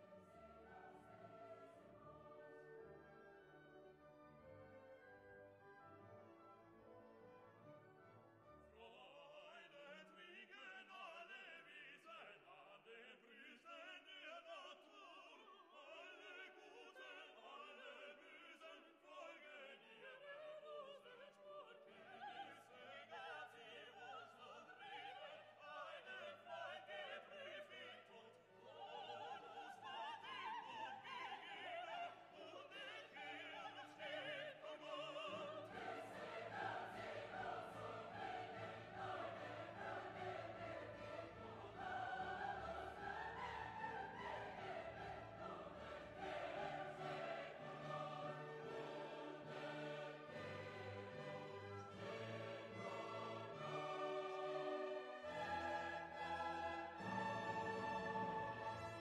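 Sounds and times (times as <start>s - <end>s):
operatic singing with orchestra: 0.0s - 5.6s, 8.7s - 59.0s.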